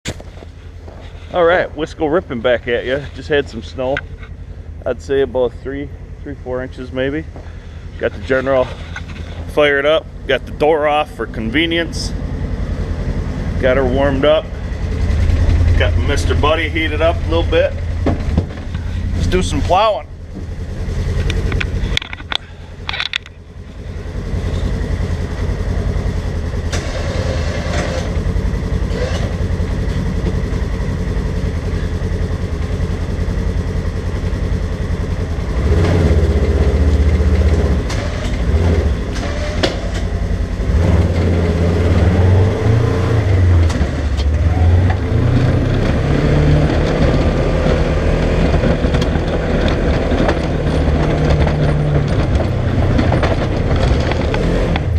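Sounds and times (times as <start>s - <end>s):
utility vehicle engine revving: 0.1s - 54.9s.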